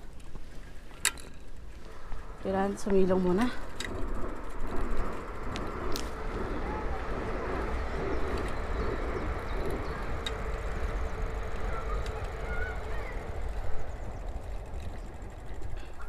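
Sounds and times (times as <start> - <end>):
bicycle noise: 0.0 - 16.0
wind rumbling on microphone: 0.0 - 16.0.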